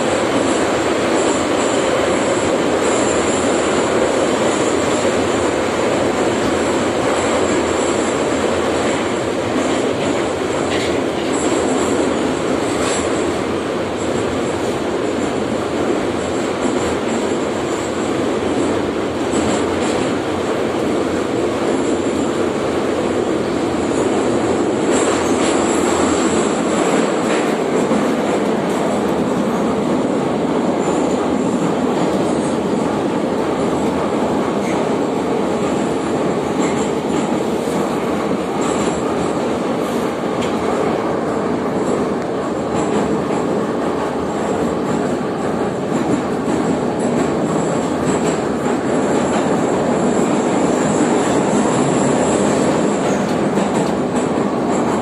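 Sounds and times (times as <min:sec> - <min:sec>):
metro car wheels rumbling: 0:00.0 - 0:55.0.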